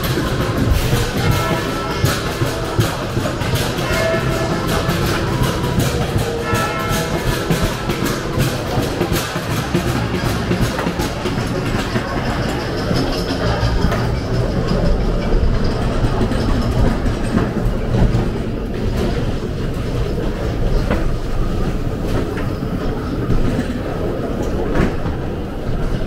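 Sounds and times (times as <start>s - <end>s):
ride car rumbling along track: 0.0s - 26.0s
wheels knocking on rails: 0.0s - 26.0s.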